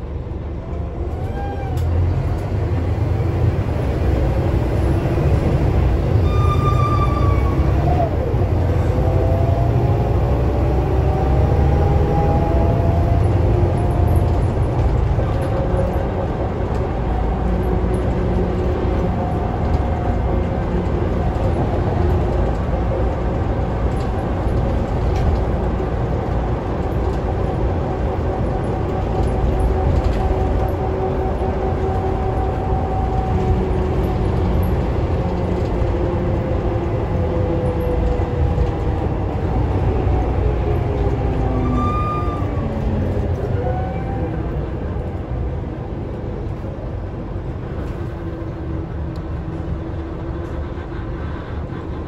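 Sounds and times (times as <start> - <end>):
bus engine and road drone: 0.0 - 52.0.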